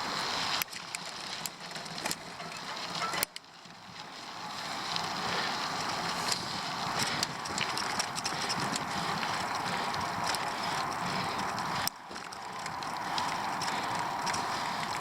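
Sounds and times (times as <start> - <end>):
bicycle drivetrain clicks: 0.0 - 15.0
bicycle tyres rolling: 0.0 - 15.0.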